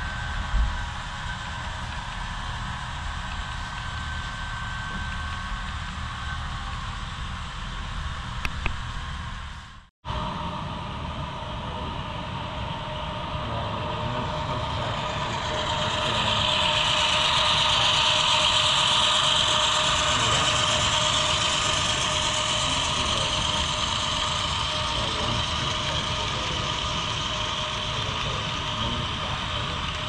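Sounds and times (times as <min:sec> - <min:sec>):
model train engine hum: 0:00.0 - 0:30.0.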